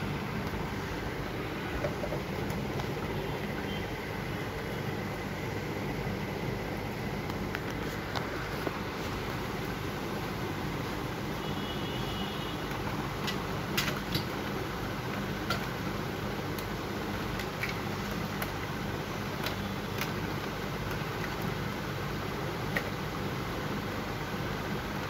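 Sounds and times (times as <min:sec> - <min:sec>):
steady hiss with low hum: 0:00.0 - 0:25.0.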